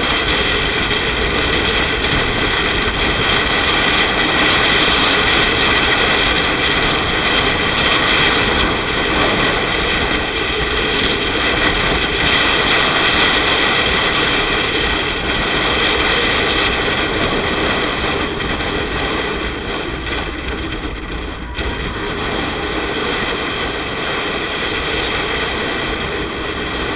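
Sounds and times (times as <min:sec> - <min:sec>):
motorcycle engine drone: 0:00.0 - 0:26.9
wind rushing over microphone: 0:00.0 - 0:26.9.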